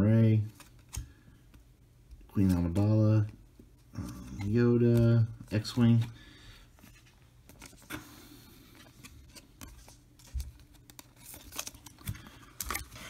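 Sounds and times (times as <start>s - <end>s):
trading cards rustling and clicking: 0.3s - 13.0s.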